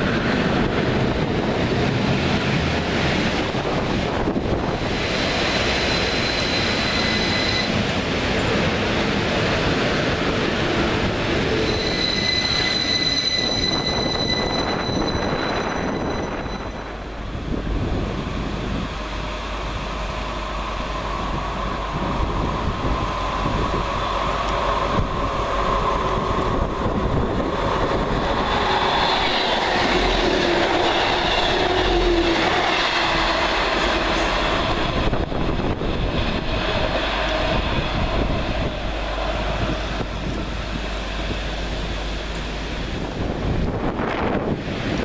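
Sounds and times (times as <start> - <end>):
train passing at speed: 0.0 - 45.0
wheel and rail noise: 0.0 - 45.0.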